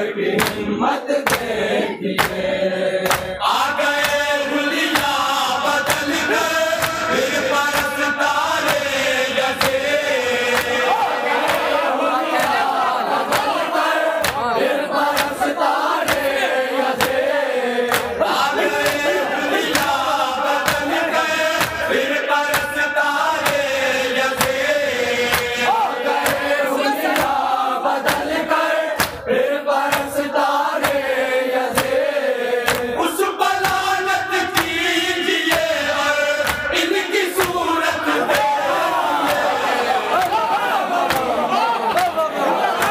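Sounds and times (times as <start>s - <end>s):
men chanting in unison: 0.0s - 42.9s.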